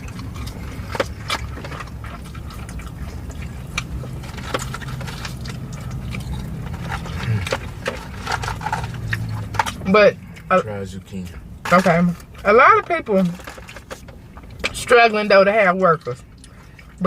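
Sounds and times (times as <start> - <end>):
chewing and mouth smacking: 0.0 - 17.0
steady low hum: 0.0 - 17.0.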